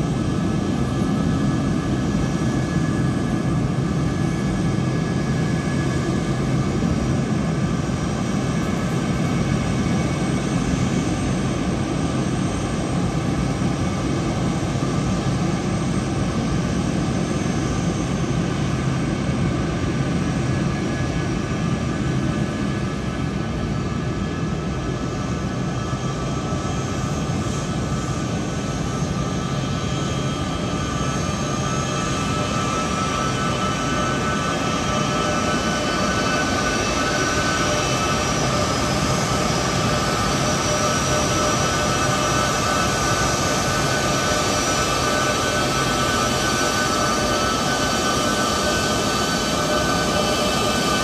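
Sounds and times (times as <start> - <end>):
jet engine whine: 0.0 - 51.0
jet engines rushing: 0.0 - 51.0.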